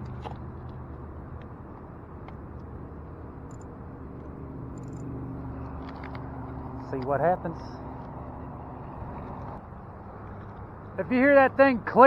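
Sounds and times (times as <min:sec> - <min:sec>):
distant city traffic hum: 0:00.0 - 0:12.0.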